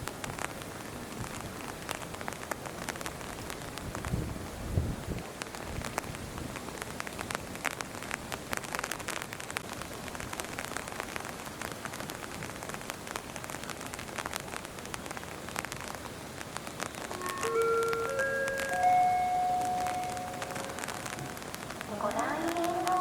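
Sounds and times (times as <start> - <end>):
rain drops on hard surface: 0.0 - 23.0.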